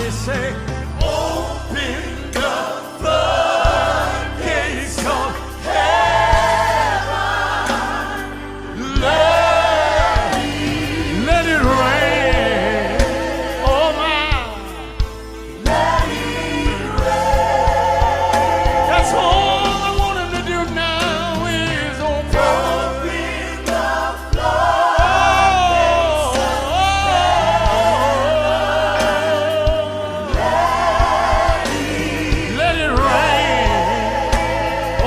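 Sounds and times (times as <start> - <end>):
gospel choir with instruments: 0.0 - 35.0.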